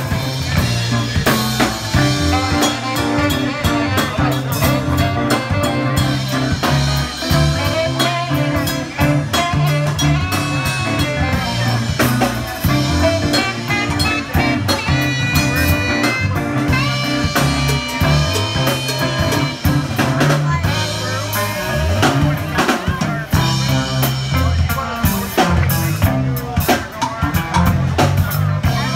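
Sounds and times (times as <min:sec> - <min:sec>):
bass guitar: 0:00.0 - 0:28.9
drum kit beat: 0:00.0 - 0:28.9
electric guitar: 0:00.0 - 0:28.9
saxophone: 0:00.0 - 0:28.9.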